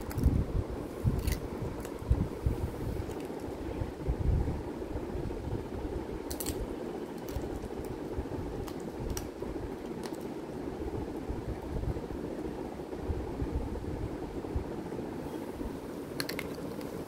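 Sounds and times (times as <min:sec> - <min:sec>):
low rushing background noise: 0:00.0 - 0:17.0.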